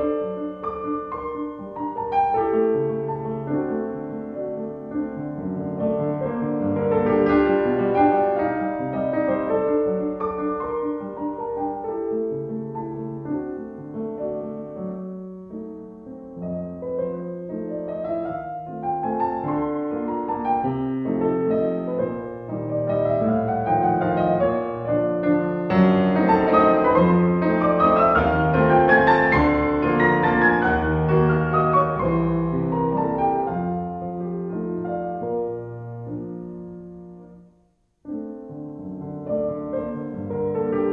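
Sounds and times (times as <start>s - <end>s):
background piano music: 0.0s - 40.9s.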